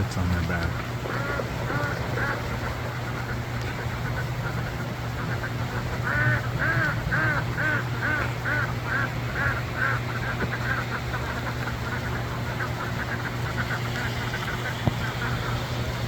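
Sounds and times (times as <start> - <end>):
ducks quacking: 0.0 - 16.0
low hum: 0.0 - 16.0.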